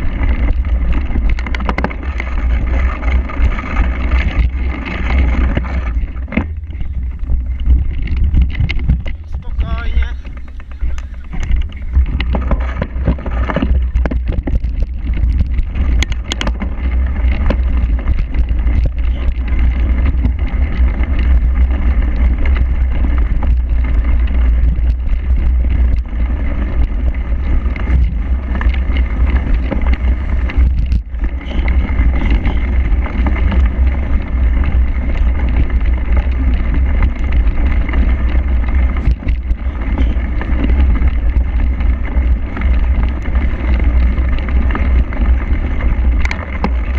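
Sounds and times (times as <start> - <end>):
bike knocks and rattles: 0.0 - 46.9
wind rumble on microphone: 0.0 - 46.9.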